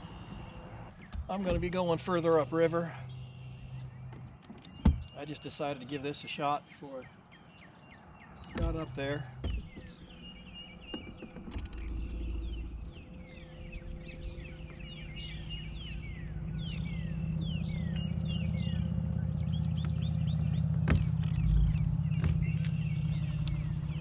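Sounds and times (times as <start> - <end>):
boat motor running: 0.0 - 5.3, 8.4 - 24.0
birds chirping: 0.0 - 24.0.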